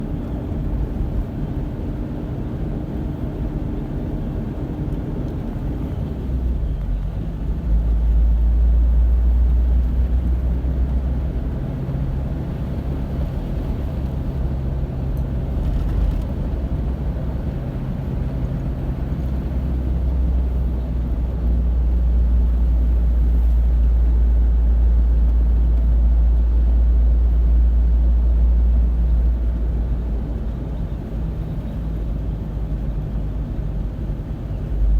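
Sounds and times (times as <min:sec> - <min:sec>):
vehicle engine and road rumble: 0:00.0 - 0:34.9.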